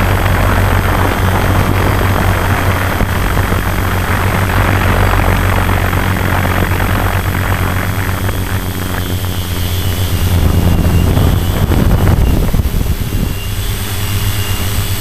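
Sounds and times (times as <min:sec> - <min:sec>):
drone propellers droning: 0:00.0 - 0:15.0
thin high whine: 0:00.0 - 0:15.0.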